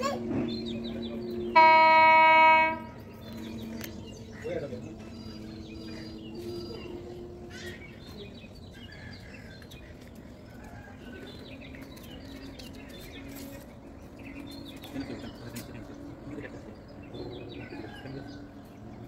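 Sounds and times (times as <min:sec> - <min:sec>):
small birds chirping: 0:00.0 - 0:01.6, 0:02.8 - 0:19.0
low outdoor background noise: 0:00.0 - 0:19.0.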